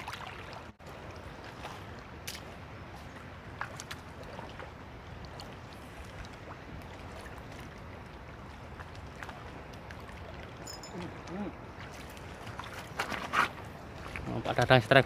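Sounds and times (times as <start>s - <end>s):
water lapping against a boat: 0.0s - 15.0s.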